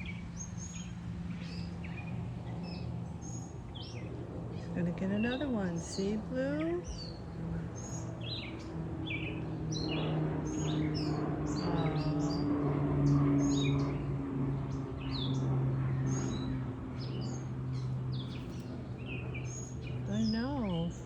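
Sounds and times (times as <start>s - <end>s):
birds chirping and calling: 0.0s - 21.0s
steady low hum: 0.0s - 21.0s.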